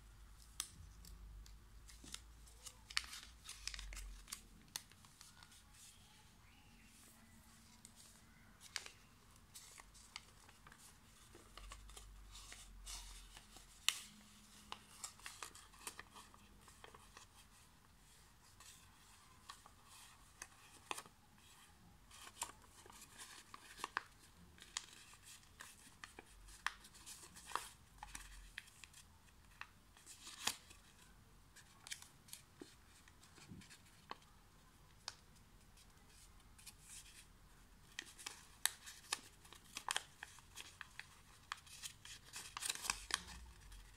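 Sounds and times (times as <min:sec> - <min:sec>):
paper folding and crinkling: 0:00.4 - 0:43.9.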